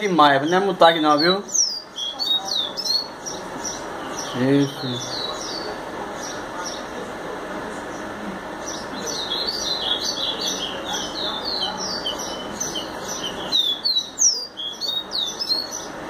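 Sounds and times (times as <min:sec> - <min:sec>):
songbird chirping: 0:00.0 - 0:07.0, 0:07.7 - 0:16.0.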